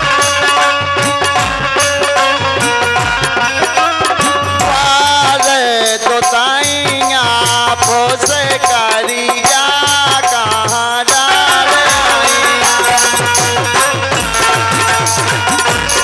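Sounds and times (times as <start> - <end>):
percussion beat: 0.0 - 16.0.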